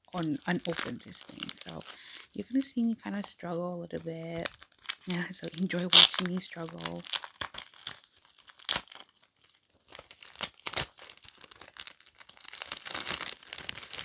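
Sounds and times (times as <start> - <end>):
packaging crinkling: 0.0 - 14.0
tape ripping off package: 0.1 - 2.6, 4.4 - 14.0.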